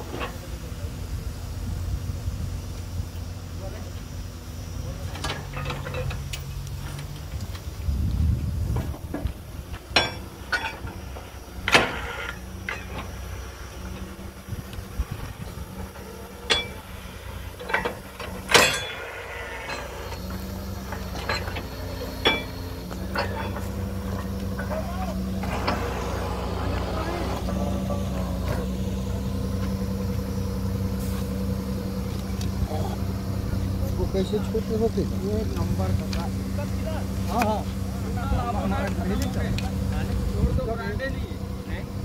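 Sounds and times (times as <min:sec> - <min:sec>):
drilling rig engine running: 0:00.0 - 0:42.0.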